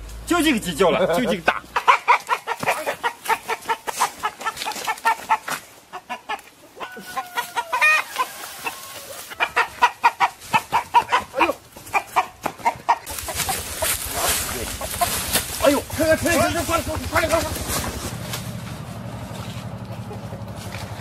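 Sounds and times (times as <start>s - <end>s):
chicken clucking in alarm: 1.3s - 18.2s
chicken drawn-out call: 1.6s - 19.1s.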